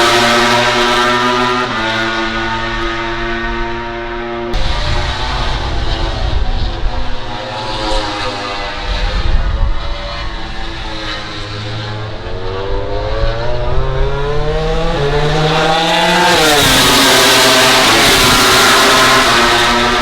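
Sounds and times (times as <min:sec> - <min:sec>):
another motorcycle approaching: 0:00.0 - 0:20.0
racing motorcycle engine: 0:00.0 - 0:20.0.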